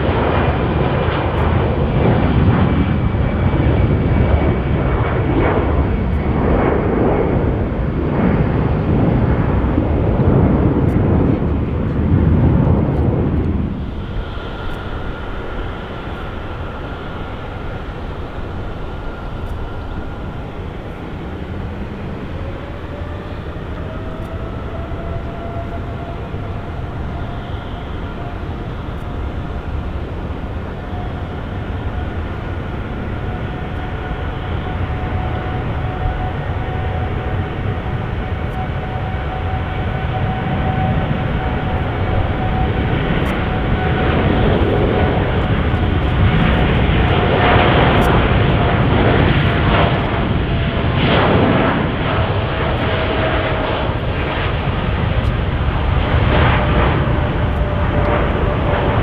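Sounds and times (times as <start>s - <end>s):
jet engines rumbling and whining: 0.0s - 59.0s.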